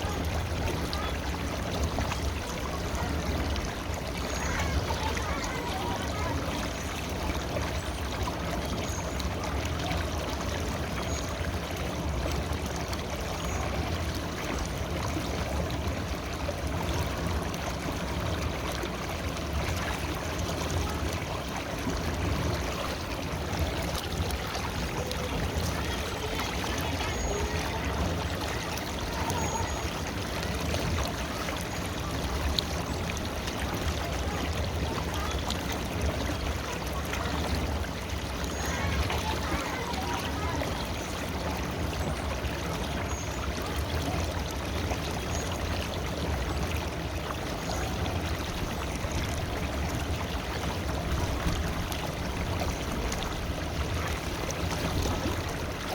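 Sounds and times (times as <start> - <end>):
river water babbling: 0.0 - 55.9.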